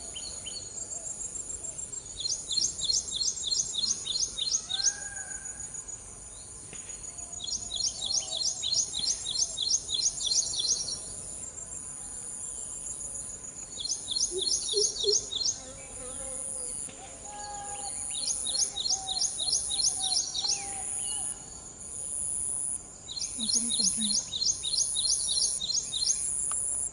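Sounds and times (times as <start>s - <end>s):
insects buzzing: 0.0s - 26.9s
rapid high insect chirps: 0.0s - 26.9s.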